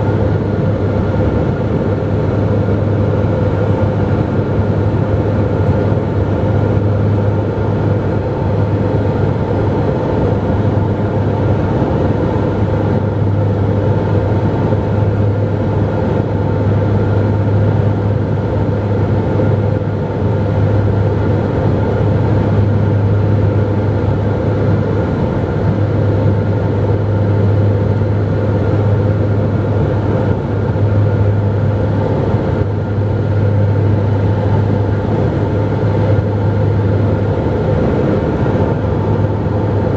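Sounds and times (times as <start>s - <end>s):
turboprop engines droning in flight: 0.0s - 39.9s.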